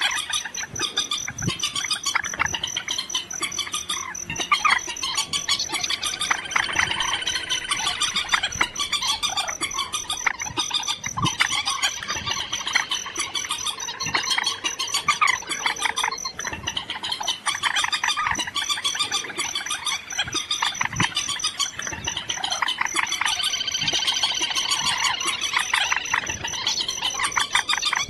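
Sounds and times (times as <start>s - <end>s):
bird calls and chirps: 0.0s - 28.0s.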